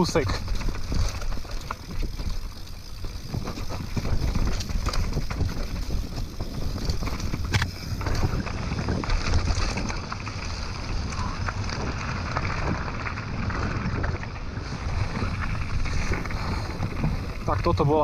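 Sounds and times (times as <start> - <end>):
bike rattles and knocks: 0.0 - 18.0
wind rumble on microphone: 0.0 - 18.0.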